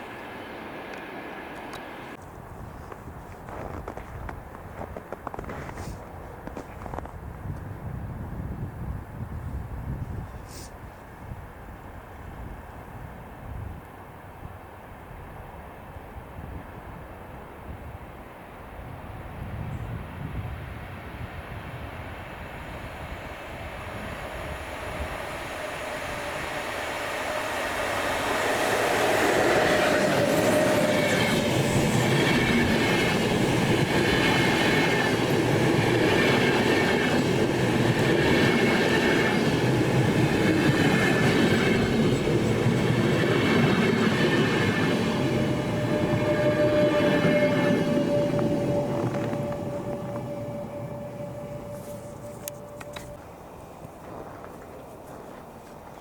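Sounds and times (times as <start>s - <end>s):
train rolling on rails: 0.0s - 56.0s.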